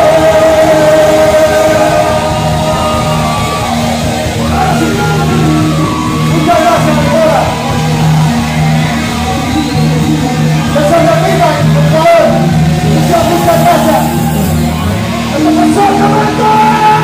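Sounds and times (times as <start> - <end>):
live rock band playing: 0.0 - 17.0
vocalists singing and shouting: 0.0 - 17.0.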